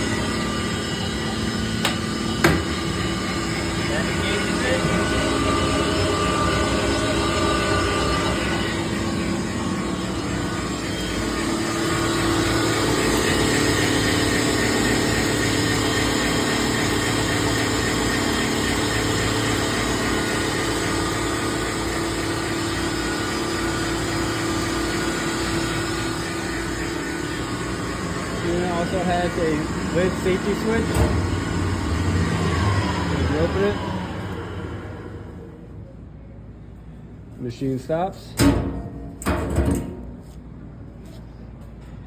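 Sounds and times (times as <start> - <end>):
meat grinder motor humming: 0.0 - 35.4.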